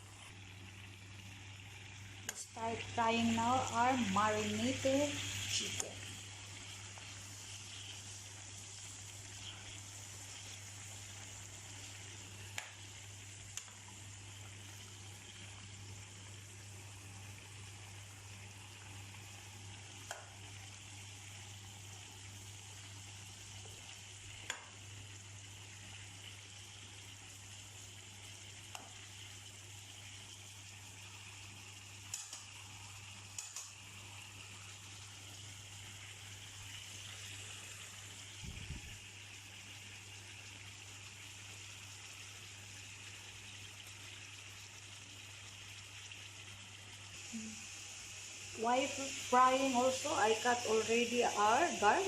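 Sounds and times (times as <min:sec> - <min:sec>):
chicken sizzling in oil: 0:00.0 - 0:52.0.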